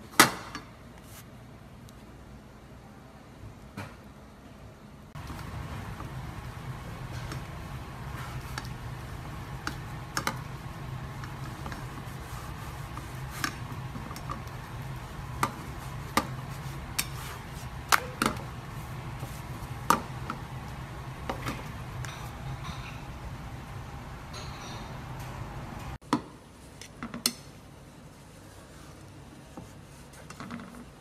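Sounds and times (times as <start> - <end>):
steady low hum: 0.8 - 26.8.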